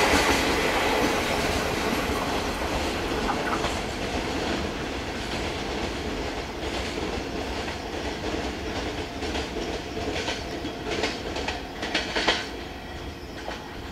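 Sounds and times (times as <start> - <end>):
train wheels clattering on rails: 0.0 - 13.9.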